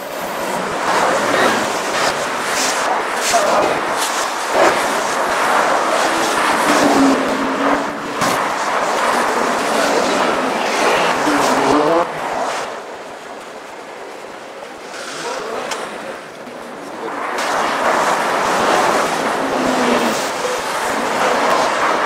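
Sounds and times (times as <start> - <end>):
buses and cars passing: 0.0 - 22.0.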